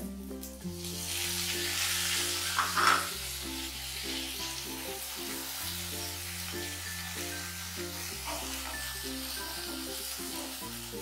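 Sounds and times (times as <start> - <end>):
onions sizzling in hot oil: 0.1 - 11.0.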